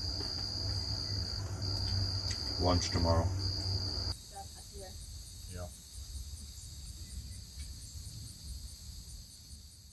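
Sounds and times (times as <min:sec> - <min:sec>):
insect chorus: 0:00.0 - 0:09.9
pulsing insect trill: 0:00.0 - 0:09.9.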